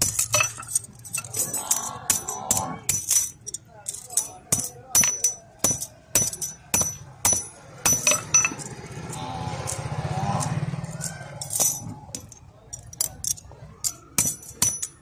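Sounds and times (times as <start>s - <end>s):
hammer striking metal: 0.0s - 15.0s.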